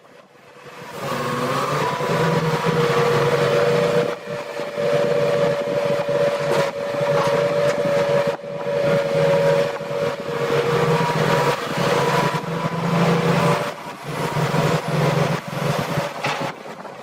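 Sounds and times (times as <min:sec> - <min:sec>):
heavy machine engine drone: 0:00.0 - 0:17.0.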